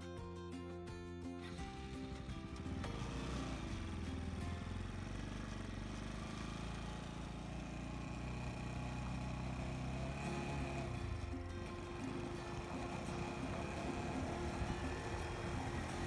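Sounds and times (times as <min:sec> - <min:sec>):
motorcycle engine at low revs: 0:01.4 - 0:16.0.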